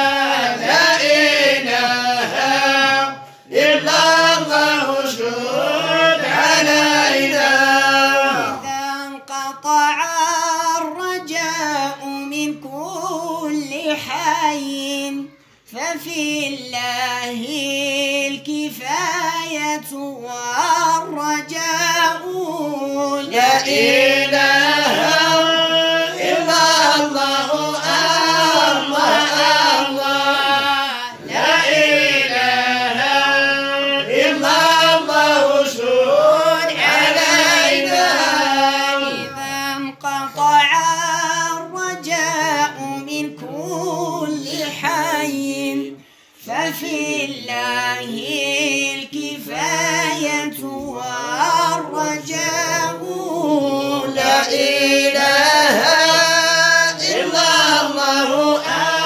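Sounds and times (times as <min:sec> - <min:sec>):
person singing devotional song: 0:00.0 - 0:59.0.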